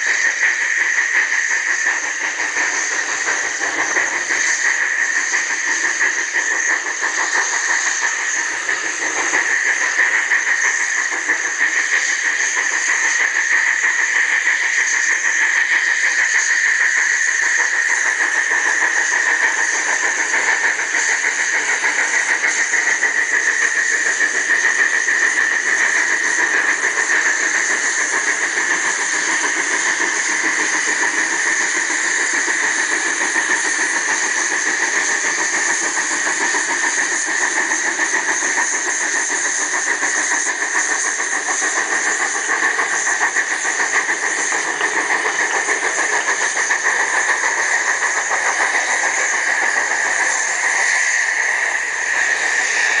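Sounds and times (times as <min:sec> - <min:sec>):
steam hissing: 0:00.0 - 0:53.0
train going by: 0:00.0 - 0:53.0.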